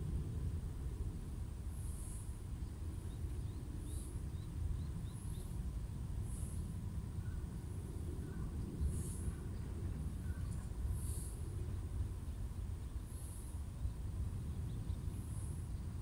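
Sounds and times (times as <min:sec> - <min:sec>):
steady low city rumble: 0:00.0 - 0:16.0.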